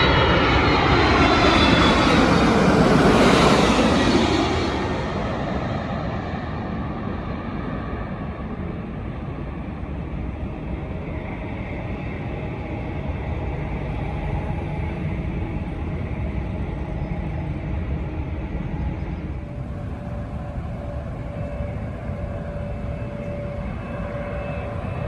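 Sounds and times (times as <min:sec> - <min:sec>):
faint jet engine whine: 0:00.0 - 0:25.0
jet engine rumble and roar: 0:00.0 - 0:25.0.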